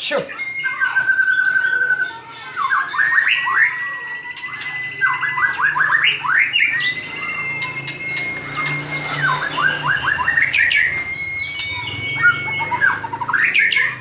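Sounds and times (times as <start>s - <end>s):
songbird singing whistles: 0.1s - 14.0s.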